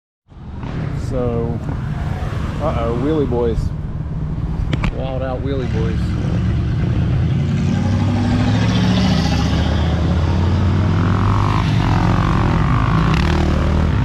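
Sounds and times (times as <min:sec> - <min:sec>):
motorbike engines revving: 0:00.4 - 0:14.0.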